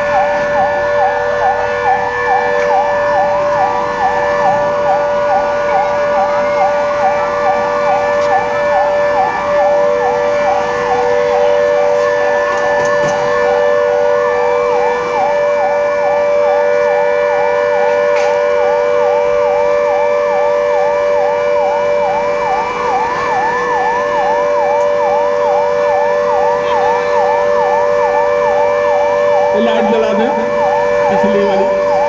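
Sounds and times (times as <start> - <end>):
siren yelping: 0.0 - 32.0.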